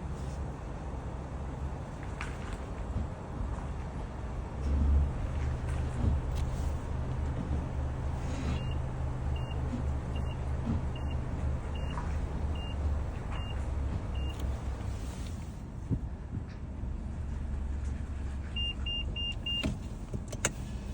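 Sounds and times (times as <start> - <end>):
car engine low rumble: 0.0 - 20.9.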